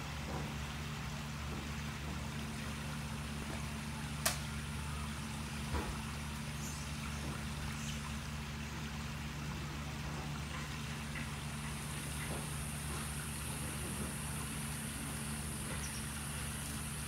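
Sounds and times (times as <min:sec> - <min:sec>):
pool jet splashing water: 0:00.0 - 0:17.0.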